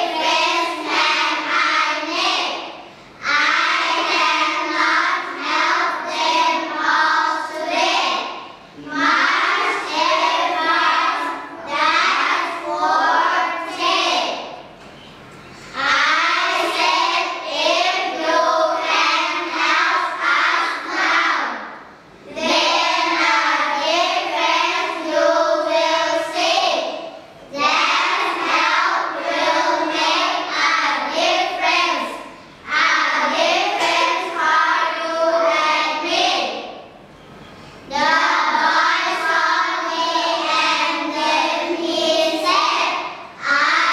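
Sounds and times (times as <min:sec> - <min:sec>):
children's choir singing: 0:00.0 - 0:14.7, 0:15.7 - 0:37.0, 0:37.8 - 0:43.9.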